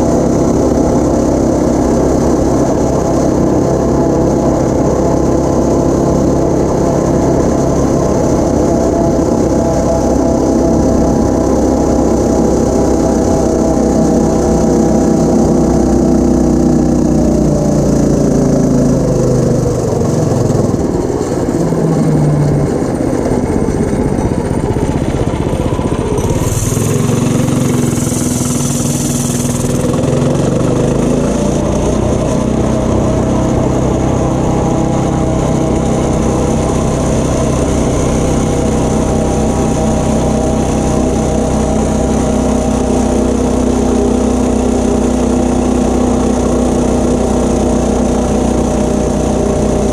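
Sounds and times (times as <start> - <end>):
mini bike engine running hard: 0.0 - 49.9.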